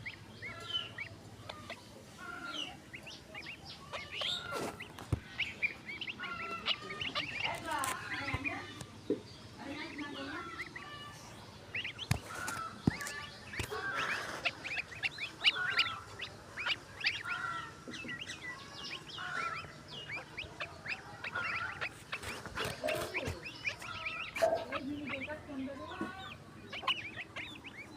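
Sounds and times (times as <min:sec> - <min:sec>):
many birds chirping: 0:00.0 - 0:27.9.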